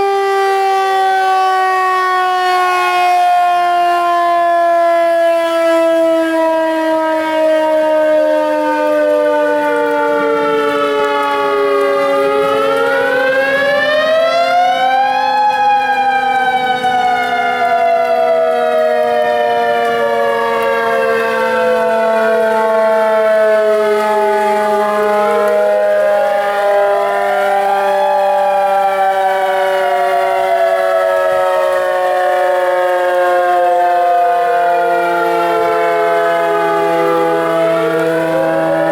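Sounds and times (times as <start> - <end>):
siren steady falling tone: 0.0 - 38.9
siren wailing up and down: 0.0 - 38.9.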